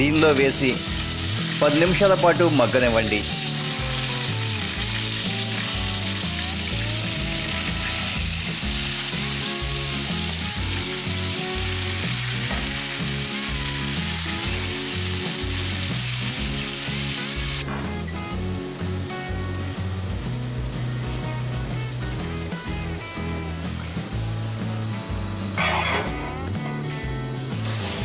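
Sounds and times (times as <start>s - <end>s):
eggplants sizzling in hot oil: 0.0s - 26.2s, 27.5s - 28.0s.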